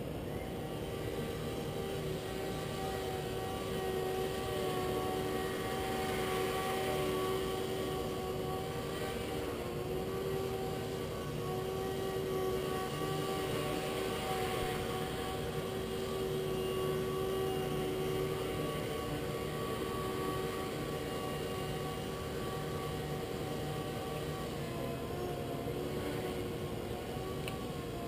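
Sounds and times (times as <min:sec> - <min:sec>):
toy helicopter rotors whining: 0:00.0 - 0:28.0.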